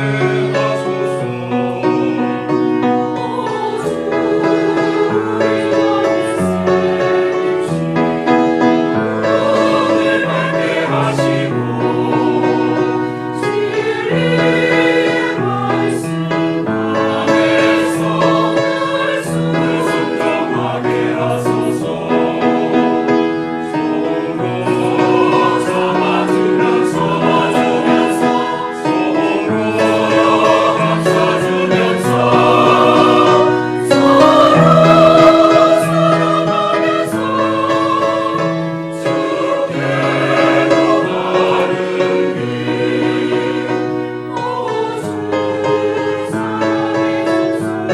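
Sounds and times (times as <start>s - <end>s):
church choir singing a hymn: 0.0s - 47.9s.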